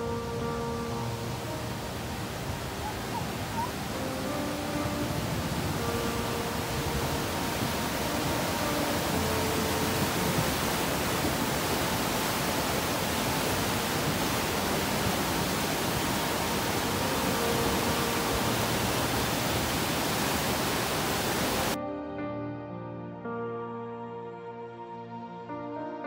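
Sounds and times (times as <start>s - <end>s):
floodwater rushing: 0.0s - 21.8s.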